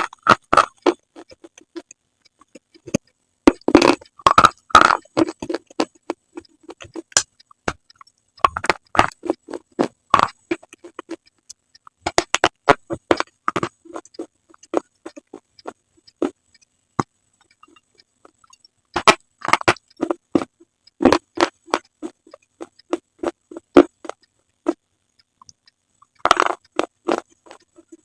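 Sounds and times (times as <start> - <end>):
crunching and chewing: 0.0 - 28.0.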